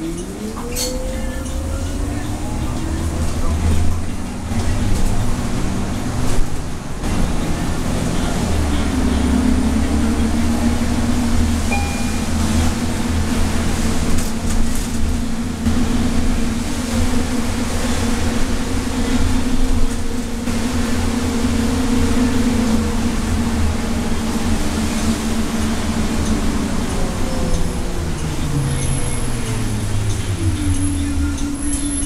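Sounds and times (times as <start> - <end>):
bus engine rumble and hum: 0.0 - 32.0
tyres on wet road: 0.0 - 32.0.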